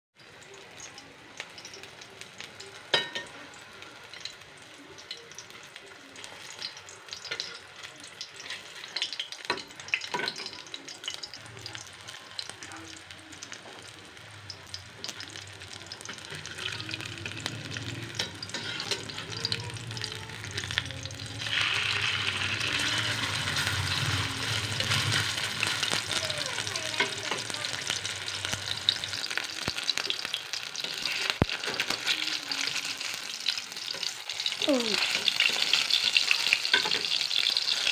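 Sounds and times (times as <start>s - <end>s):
burger sizzling in a pan: 0.2s - 37.9s.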